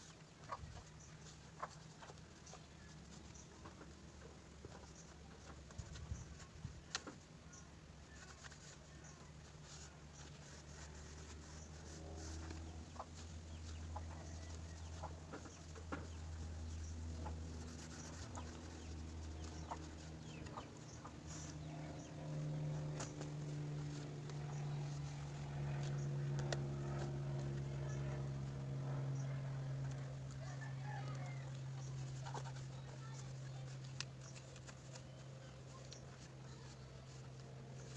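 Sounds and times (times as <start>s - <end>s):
fan hum: 0.0s - 37.9s.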